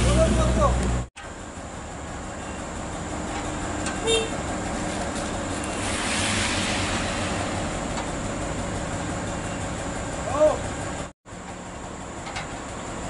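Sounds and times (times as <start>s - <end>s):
diesel truck engine rumble: 0.0s - 13.0s.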